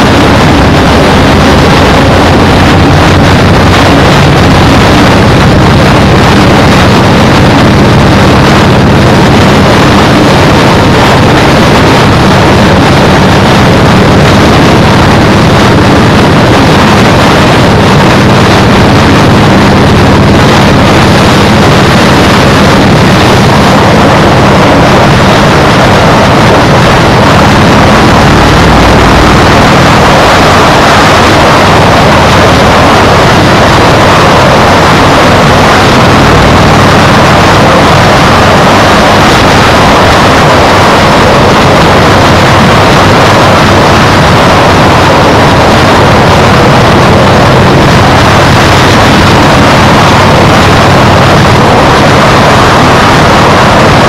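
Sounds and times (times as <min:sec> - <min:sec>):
low steady hum: 0:00.0 - 0:54.0
wind buffeting microphone: 0:00.0 - 0:54.0.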